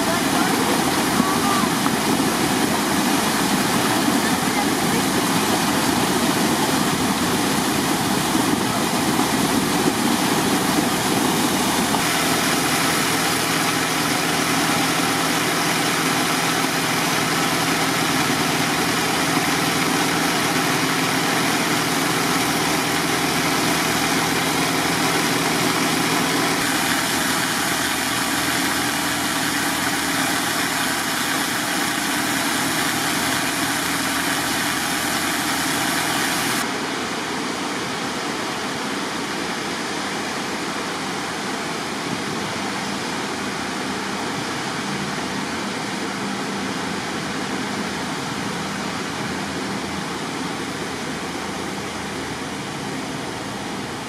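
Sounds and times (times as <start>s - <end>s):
diesel pump engine running: 0.0s - 54.0s.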